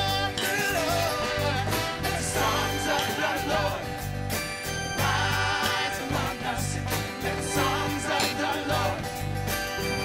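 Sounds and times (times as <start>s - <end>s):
bass notes: 0.0s - 10.0s
worship band and singers: 0.0s - 10.0s.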